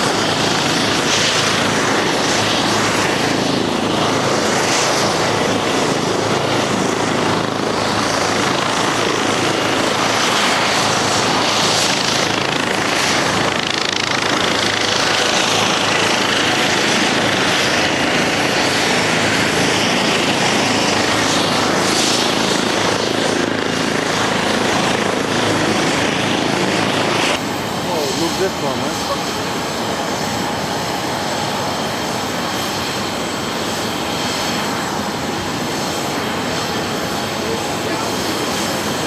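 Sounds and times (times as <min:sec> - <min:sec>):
aircraft turbine engines roaring: 0:00.0 - 0:39.0.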